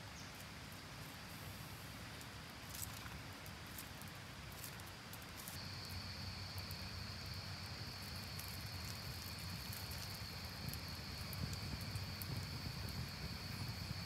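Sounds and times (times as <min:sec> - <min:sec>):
fire crackles: 0:00.0 - 0:14.0
wood fire rumbling: 0:02.1 - 0:14.0.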